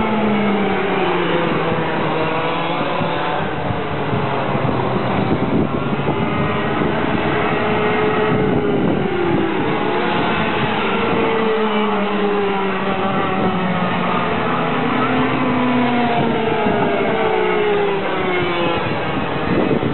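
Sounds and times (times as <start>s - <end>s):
go-kart engines racing: 0.0s - 19.9s.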